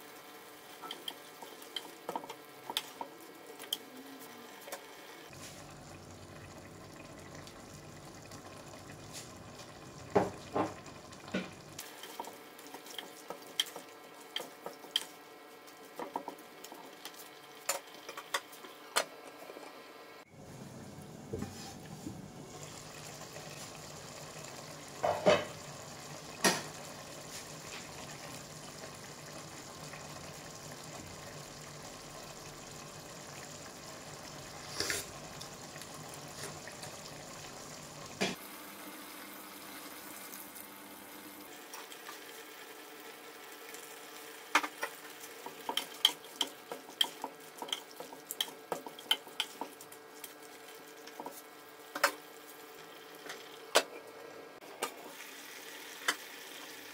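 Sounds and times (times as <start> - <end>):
steady cooking hiss: 0.0 - 56.9.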